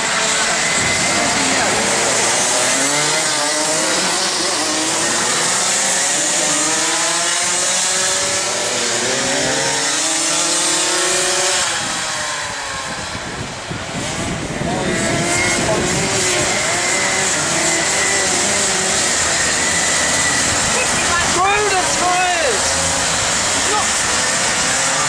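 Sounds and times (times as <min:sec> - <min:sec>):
kart engines running hard: 0:00.0 - 0:25.0.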